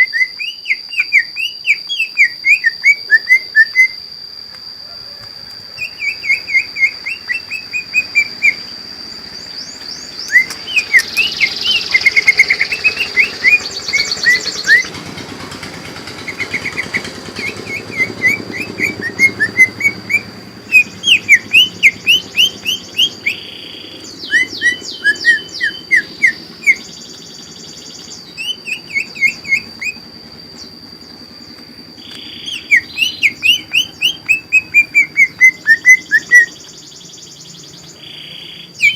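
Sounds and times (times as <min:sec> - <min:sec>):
bird singing quick chirps: 0:05.8 - 0:15.0, 0:16.1 - 0:38.9.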